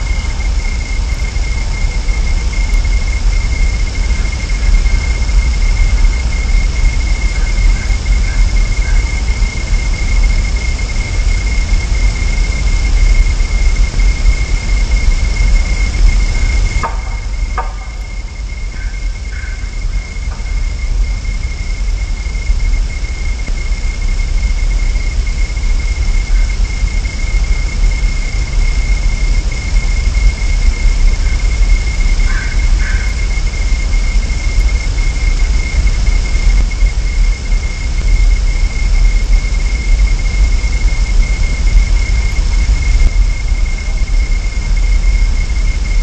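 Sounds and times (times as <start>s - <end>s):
high-pitched whine: 0.0s - 46.0s
low rumble and hiss: 0.0s - 46.0s.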